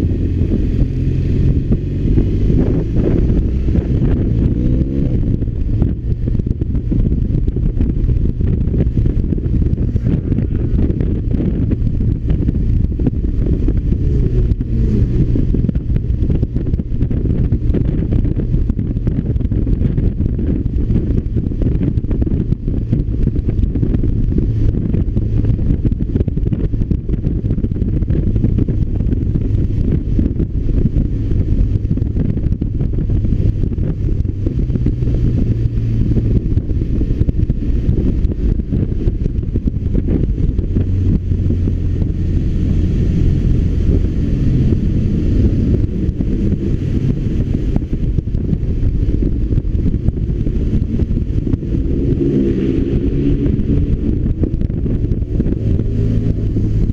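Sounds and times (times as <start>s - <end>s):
motorcycle engine running: 0.0s - 56.9s
wind rumble on microphone: 0.0s - 56.9s.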